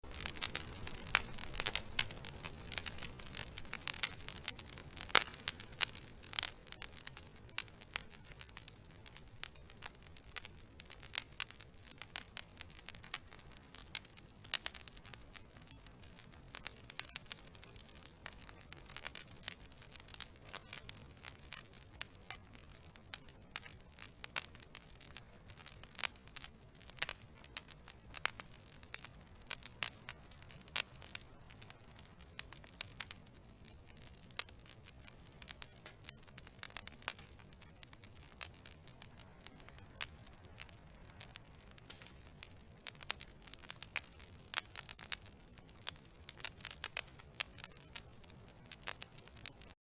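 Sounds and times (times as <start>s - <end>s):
logs crackling and popping: 0.0s - 49.8s
hiss of flame: 0.1s - 49.8s.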